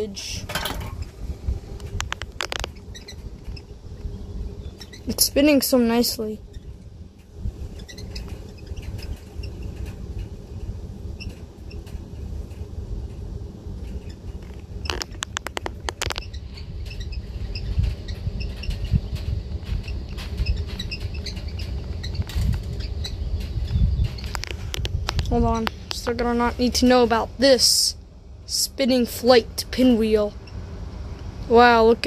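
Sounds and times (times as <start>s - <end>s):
breeze rumbling on microphone: 0.0s - 32.0s.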